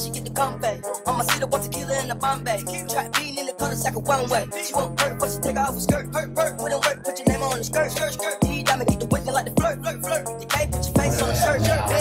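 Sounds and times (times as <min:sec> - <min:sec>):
hip-hop music with vocals: 0:00.0 - 0:12.0.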